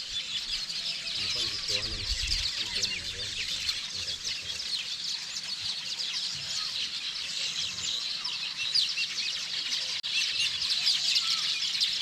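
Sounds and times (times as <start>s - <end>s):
many small birds chirping: 0.0s - 12.0s.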